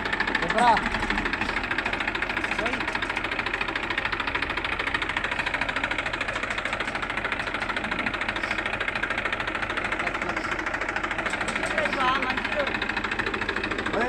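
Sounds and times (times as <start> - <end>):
tractor diesel engine clattering: 0.0 - 14.0.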